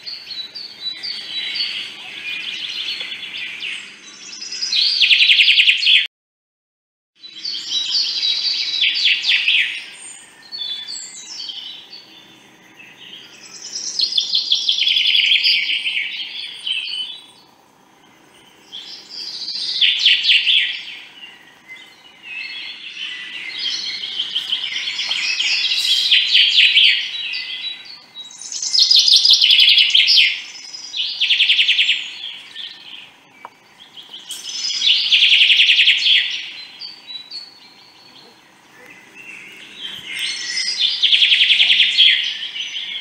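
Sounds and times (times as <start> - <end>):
songbird trilling chirps: 0.0 - 6.1, 7.2 - 43.0.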